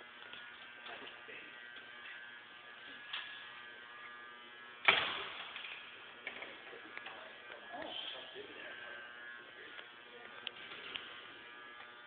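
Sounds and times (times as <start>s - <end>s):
electrical buzz: 0.0s - 12.0s.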